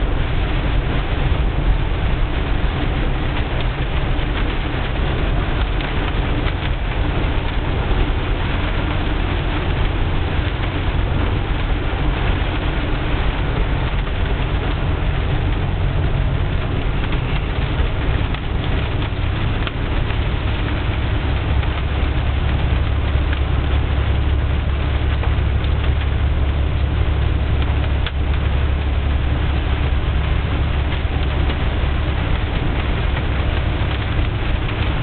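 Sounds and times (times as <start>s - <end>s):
heavy rain falling: 0.0s - 35.0s
low rumble: 0.0s - 35.0s.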